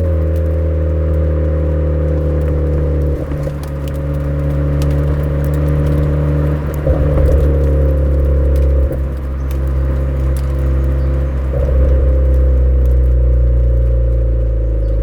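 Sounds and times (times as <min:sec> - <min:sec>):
car engine through exhaust: 0:00.0 - 0:15.0.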